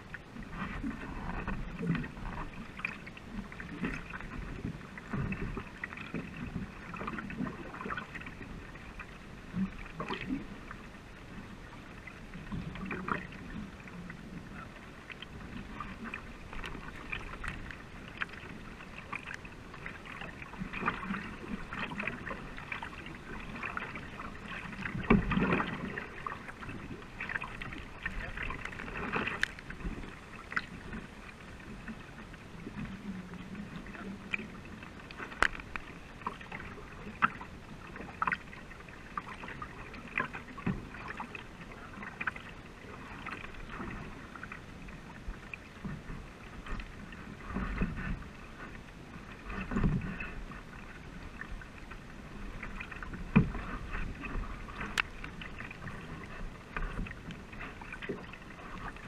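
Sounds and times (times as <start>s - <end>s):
paddle splashes and knocks: 0.0s - 59.0s
water rushing along canoe hull: 0.0s - 59.0s.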